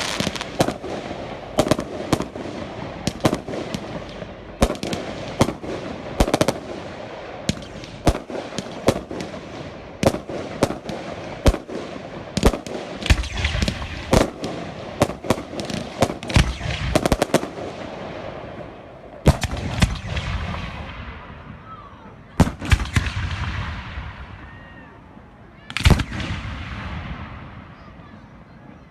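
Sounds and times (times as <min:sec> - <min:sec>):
fireworks bangs: 0:00.0 - 0:24.9, 0:25.6 - 0:28.8
fireworks crackling: 0:00.0 - 0:24.9.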